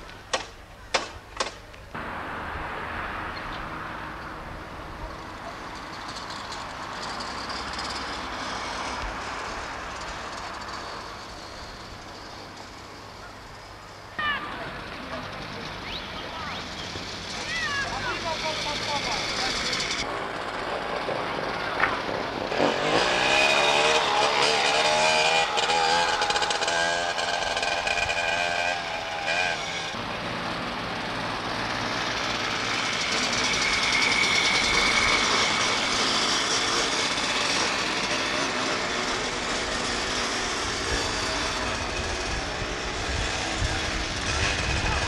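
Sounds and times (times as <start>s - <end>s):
go-kart engine revving: 1.4s - 45.0s.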